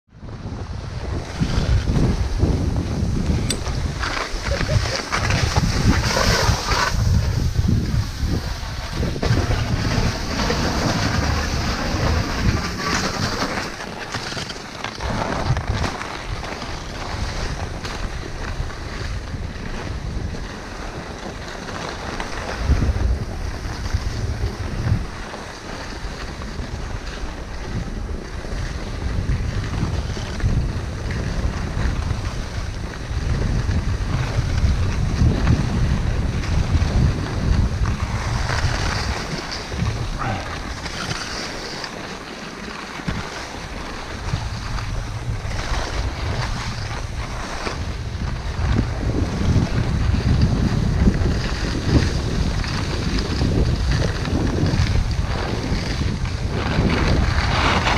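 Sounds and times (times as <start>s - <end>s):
wind buffeting microphone: 0.1s - 57.9s
skis scraping over snow: 0.2s - 57.9s.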